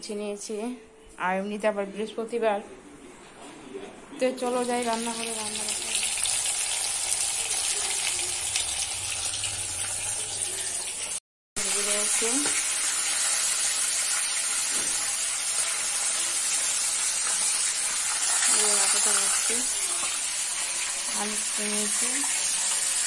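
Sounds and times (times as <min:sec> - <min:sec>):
food sizzling in hot oil: 0:04.4 - 0:23.0.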